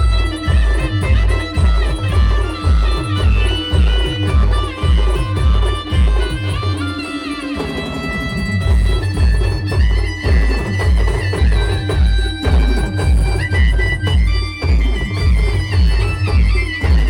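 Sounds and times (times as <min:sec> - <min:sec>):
heavy bass drum beat: 0:00.0 - 0:07.0, 0:07.7 - 0:17.0
reedy wind instrument melody: 0:00.0 - 0:17.0.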